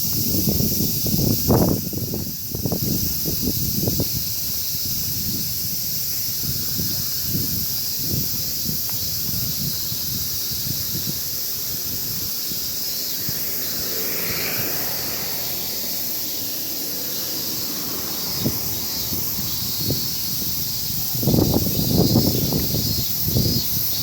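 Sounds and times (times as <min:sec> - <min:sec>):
steady high hiss: 0:00.0 - 0:24.0
wind buffeting microphone: 0:00.0 - 0:24.0.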